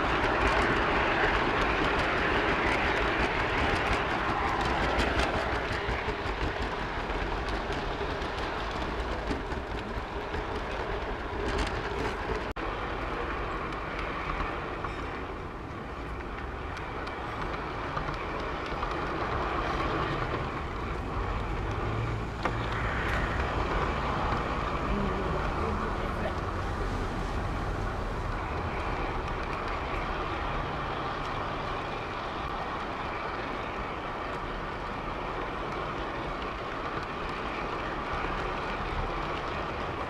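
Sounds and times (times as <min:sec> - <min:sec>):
model train rolling on track: 0:00.0 - 0:40.0
wheels clicking over rail joints: 0:00.0 - 0:40.0.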